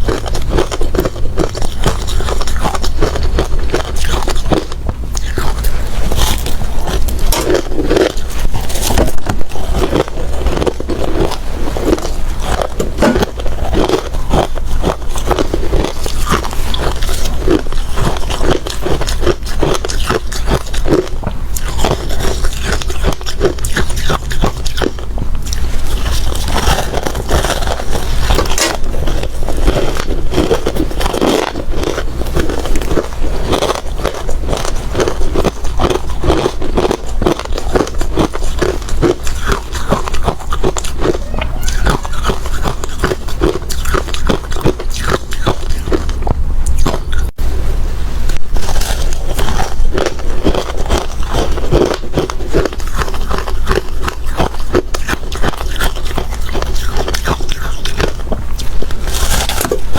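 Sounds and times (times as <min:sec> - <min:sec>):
ice crunching being chewed: 0:00.0 - 0:47.4, 0:48.6 - 0:59.9.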